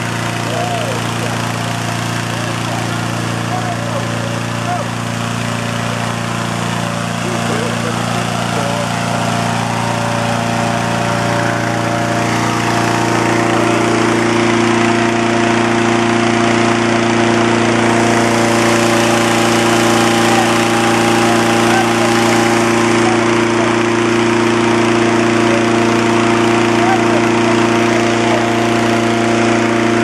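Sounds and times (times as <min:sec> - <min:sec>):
engine-driven inflator fan running: 0:00.0 - 0:30.0.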